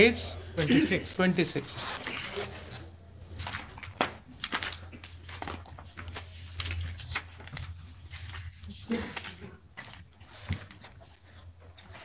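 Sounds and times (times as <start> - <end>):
paper pages rustling: 1.6 - 12.0.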